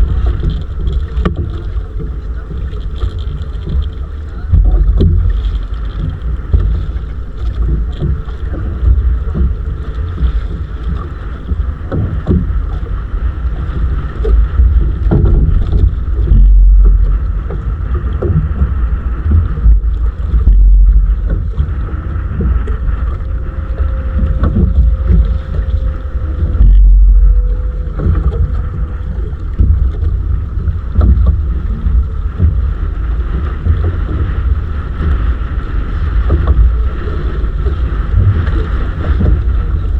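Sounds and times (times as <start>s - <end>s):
faint steady hum: 0.0s - 39.9s
wind buffeting microphone: 0.0s - 39.9s.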